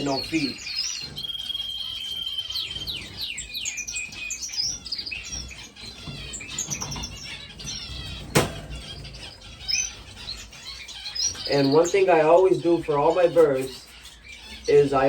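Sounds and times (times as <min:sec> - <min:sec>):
finches chirping and calling: 0:00.0 - 0:15.0.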